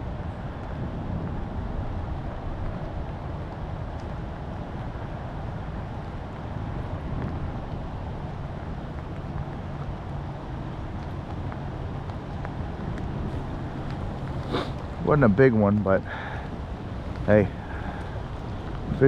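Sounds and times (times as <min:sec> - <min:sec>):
rain: 0:00.0 - 0:19.0
wind noise on microphone: 0:00.0 - 0:19.0.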